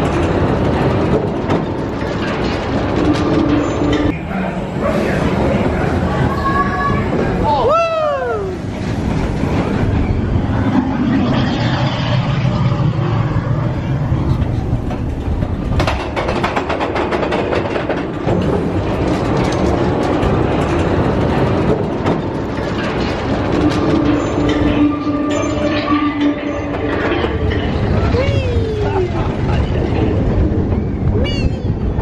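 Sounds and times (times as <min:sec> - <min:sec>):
roller coaster cars rumbling: 0:00.0 - 0:32.0.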